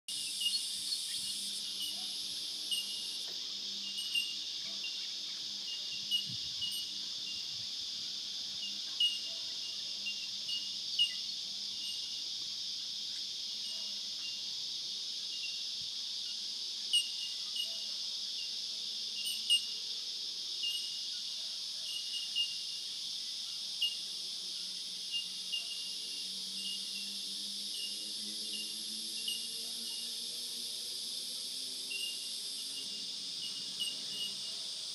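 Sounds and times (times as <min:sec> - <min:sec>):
insect chorus droning: 0:00.1 - 0:34.9.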